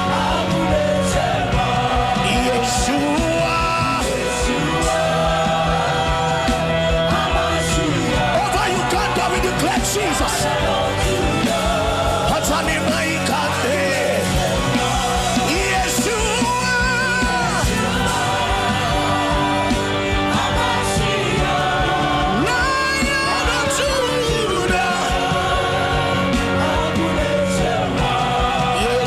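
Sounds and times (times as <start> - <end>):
congregation wailing and groaning: 0.0 - 29.0
music with sustained chords and beat: 0.0 - 29.0.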